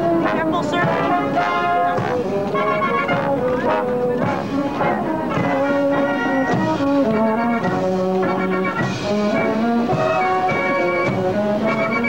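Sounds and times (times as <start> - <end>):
brass band marching tune: 0.0 - 12.0.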